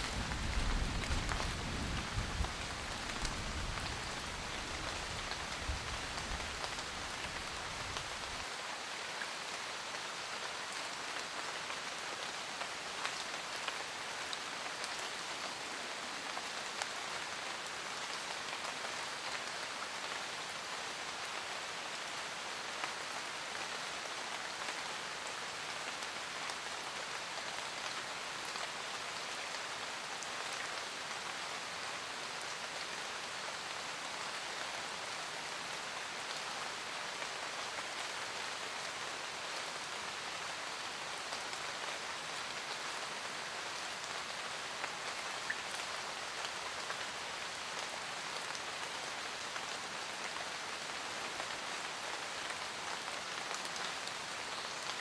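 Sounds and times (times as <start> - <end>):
rain pattering on a roof: 0.0 - 55.0.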